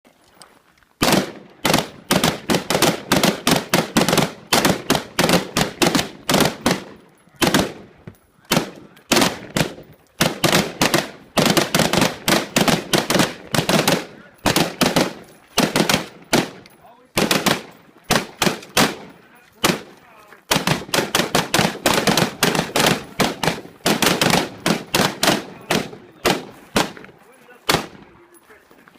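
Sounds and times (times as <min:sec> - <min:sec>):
semi-automatic gunfire: 0:01.0 - 0:07.9, 0:08.5 - 0:19.9, 0:20.5 - 0:27.1, 0:27.7 - 0:28.0.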